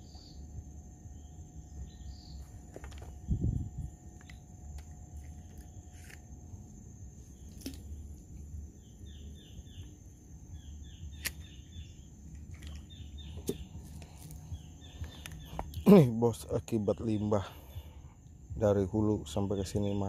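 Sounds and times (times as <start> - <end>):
bird chirping: 0.0 - 6.1, 6.9 - 20.0
high-pitched insect drone: 0.0 - 20.0.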